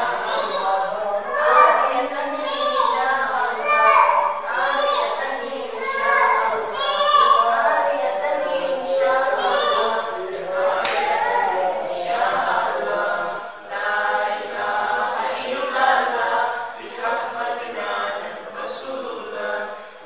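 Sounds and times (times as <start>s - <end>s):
voices chanting prayer recitation: 0.0s - 20.0s.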